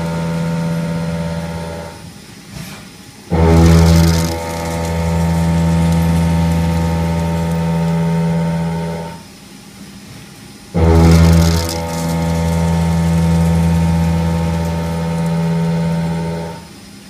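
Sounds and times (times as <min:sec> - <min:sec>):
milling machine cutting steel drone: 0:00.0 - 0:02.1, 0:03.3 - 0:09.3, 0:10.8 - 0:16.8.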